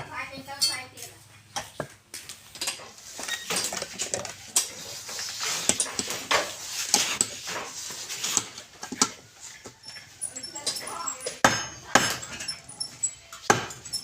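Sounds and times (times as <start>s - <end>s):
hard objects clinking and scraping: 0.0s - 14.0s.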